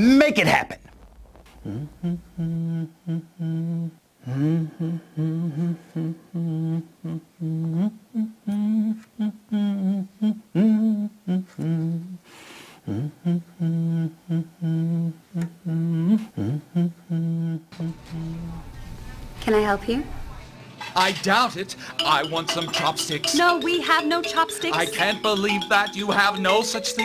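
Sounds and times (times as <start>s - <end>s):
man humming: 0.9s - 12.2s, 12.8s - 18.7s, 21.9s - 27.0s.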